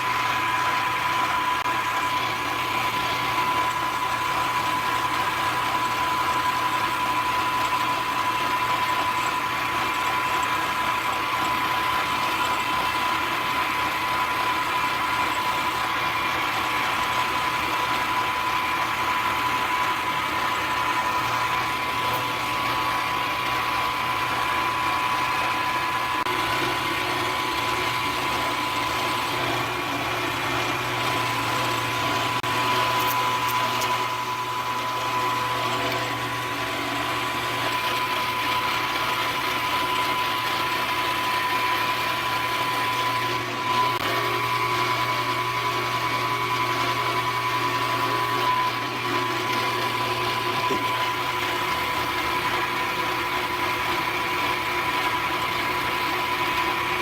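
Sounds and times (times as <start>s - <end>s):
milling machine hum and whine: 0.0s - 57.0s.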